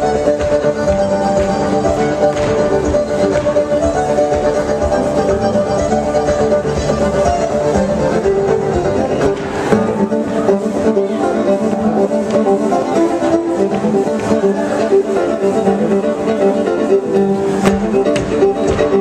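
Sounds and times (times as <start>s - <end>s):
fiddle: 0.0s - 19.0s
guitar: 0.0s - 19.0s.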